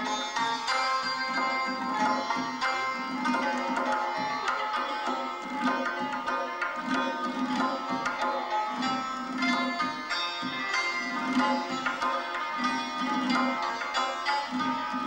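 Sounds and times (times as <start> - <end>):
hammered strings ringing: 0.0 - 15.0.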